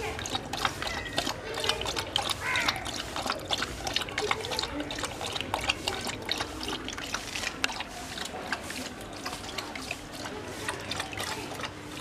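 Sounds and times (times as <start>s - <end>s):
dog lapping water: 0.0s - 12.0s.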